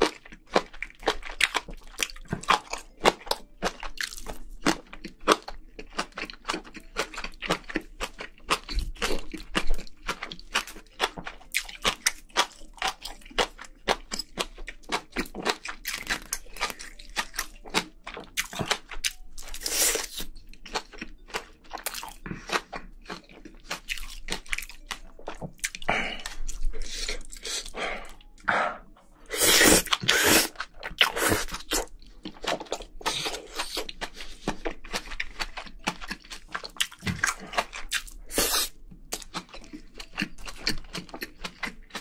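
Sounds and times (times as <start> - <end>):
crunchy chewing: 0.0 - 28.4, 29.2 - 42.0.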